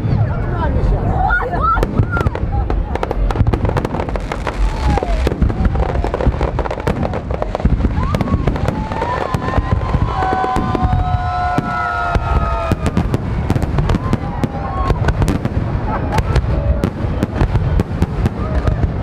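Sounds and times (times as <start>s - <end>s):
fireworks bangs and crackles: 0.0s - 19.0s
low rumble: 0.0s - 19.0s.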